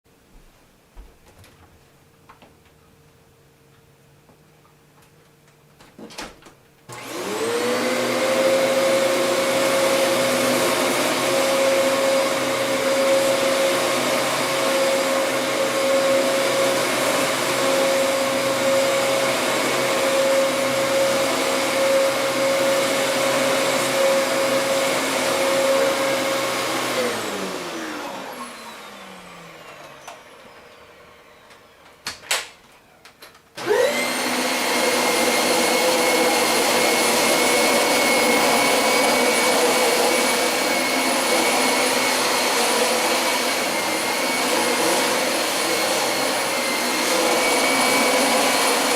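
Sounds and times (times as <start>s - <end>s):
vacuum cleaner motor running: 6.9s - 32.2s, 33.6s - 48.9s.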